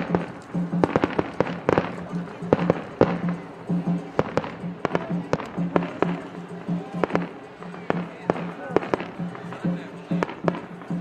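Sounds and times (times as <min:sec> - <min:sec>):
fireworks bangs: 0:00.0 - 0:03.4, 0:04.1 - 0:06.2, 0:07.0 - 0:11.0
festival music with low beat: 0:00.0 - 0:11.0.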